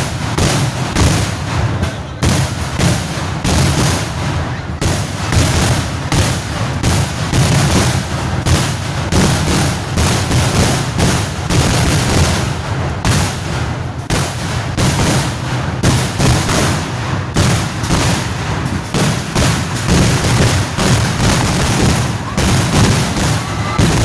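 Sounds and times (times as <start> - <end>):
fireworks rapid loud bangs: 0.0 - 24.0.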